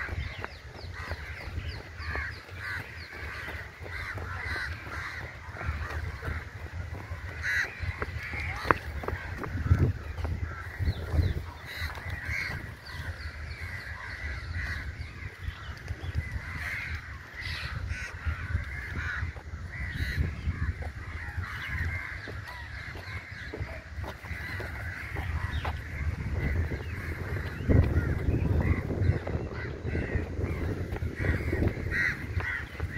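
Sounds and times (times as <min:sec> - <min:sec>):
crows cawing: 0:00.0 - 0:32.9.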